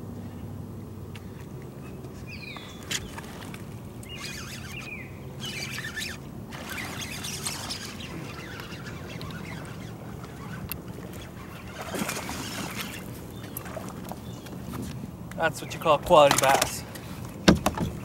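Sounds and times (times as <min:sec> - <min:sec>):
birds chirping: 0:00.2 - 0:18.0.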